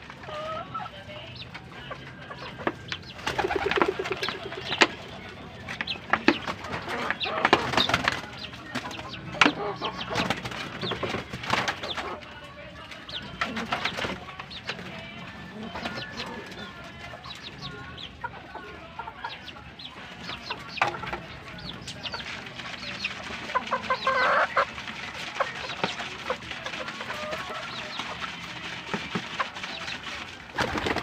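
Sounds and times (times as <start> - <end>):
group of birds calling: 0.0 - 31.0.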